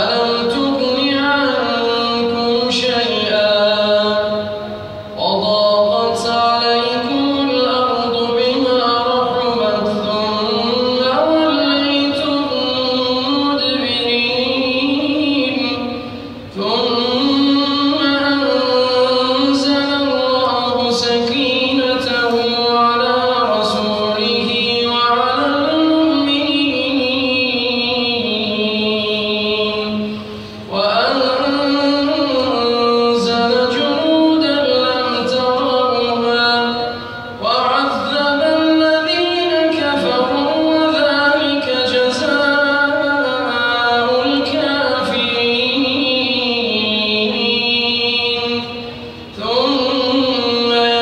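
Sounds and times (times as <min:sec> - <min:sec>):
man chanting recitation: 0:00.0 - 0:51.0.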